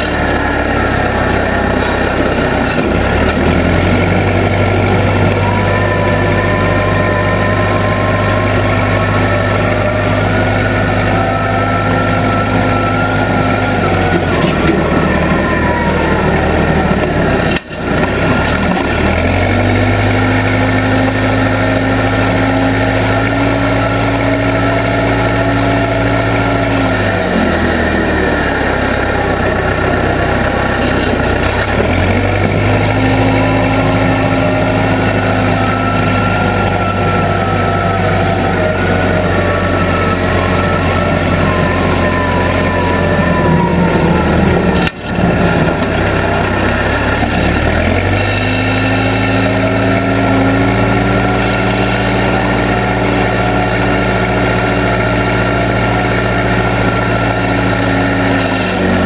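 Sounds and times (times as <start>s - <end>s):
backhoe engine running: 0.0s - 59.0s
high whine: 0.0s - 59.0s.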